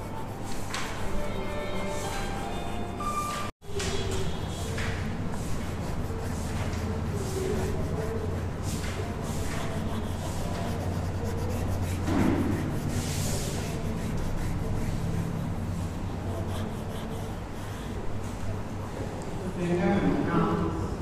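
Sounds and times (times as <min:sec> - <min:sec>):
chalk rubbing on chalkboard: 0:00.0 - 0:18.4.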